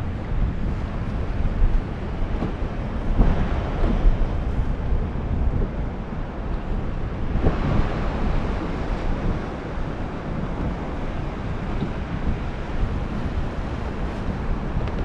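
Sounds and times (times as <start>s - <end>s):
waves lapping around boat: 0.0s - 15.0s
wind buffeting microphone: 0.0s - 15.0s.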